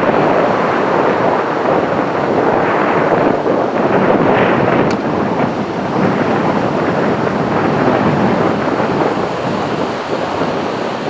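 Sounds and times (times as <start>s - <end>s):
ocean surf breaking: 0.0s - 11.0s
wind on the microphone: 0.0s - 11.0s.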